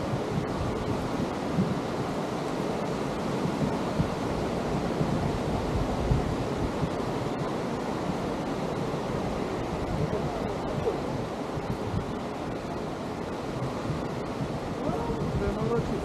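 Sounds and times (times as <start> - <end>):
surf washing onto beach: 0.0 - 16.0
wind rumble on microphone: 0.0 - 16.0.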